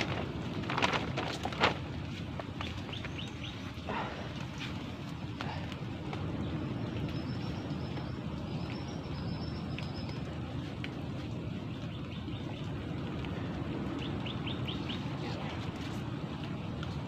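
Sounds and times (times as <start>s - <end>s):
steady low rumble: 0.0s - 17.0s
birds chirping: 2.4s - 16.3s.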